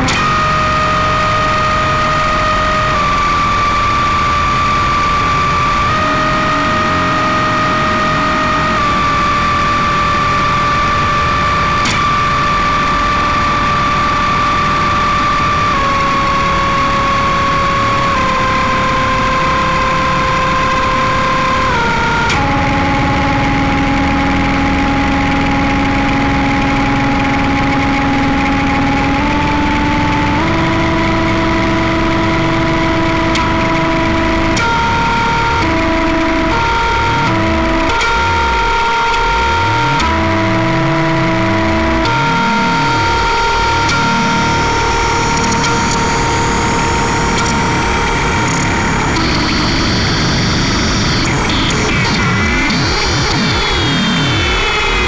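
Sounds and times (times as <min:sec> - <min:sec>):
high-pitched electronic tones: 0:00.0 - 0:55.0
noisy electronic drone: 0:00.0 - 0:55.0.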